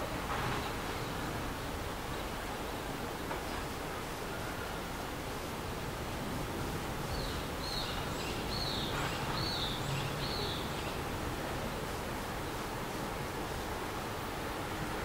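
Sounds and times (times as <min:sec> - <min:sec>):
outdoor hiss and rumble: 0:00.0 - 0:15.0.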